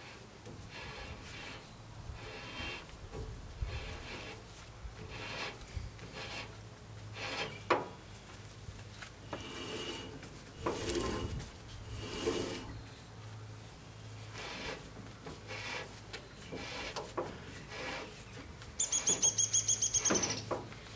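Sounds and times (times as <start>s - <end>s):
gloved hands rubbing on steel: 0.0s - 12.8s, 14.2s - 19.6s.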